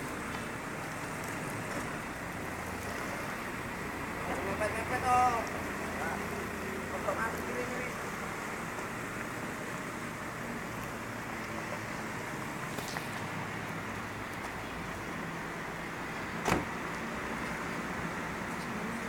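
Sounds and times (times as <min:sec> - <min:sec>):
bus diesel engine rumbling: 0:00.0 - 0:19.0.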